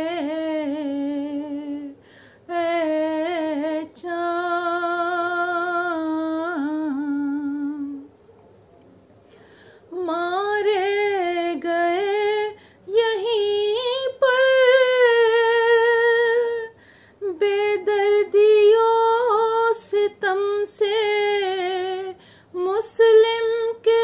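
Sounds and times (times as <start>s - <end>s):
woman singing unaccompanied: 0.0s - 8.1s, 9.9s - 24.0s.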